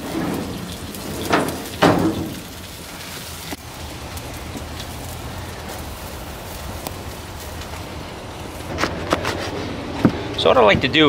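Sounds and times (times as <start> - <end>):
sauce sizzling on grill: 0.0 - 11.0.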